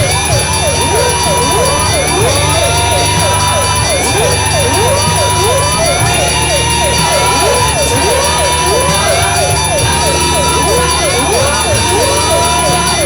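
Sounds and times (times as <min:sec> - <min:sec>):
fast drum beat buzz: 0:00.0 - 0:13.0
siren-like gliding tones: 0:00.0 - 0:13.0
steady high tones: 0:00.0 - 0:13.0.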